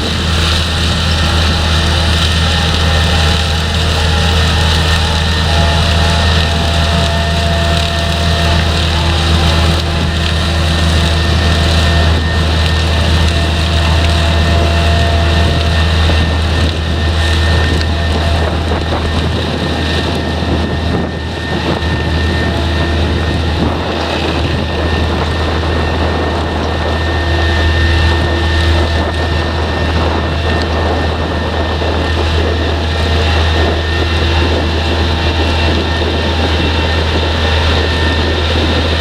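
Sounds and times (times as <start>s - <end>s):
diesel harvest machinery drone: 0.0s - 39.0s
machinery whining tones: 0.0s - 39.0s.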